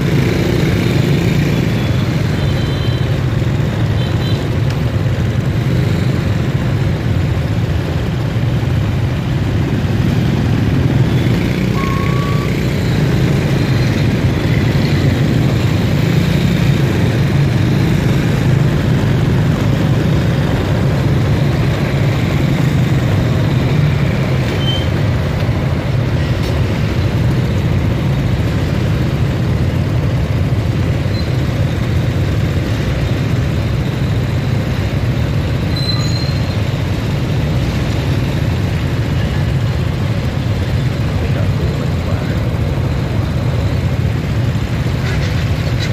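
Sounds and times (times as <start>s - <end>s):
motorbike engines rumbling: 0.0s - 45.9s.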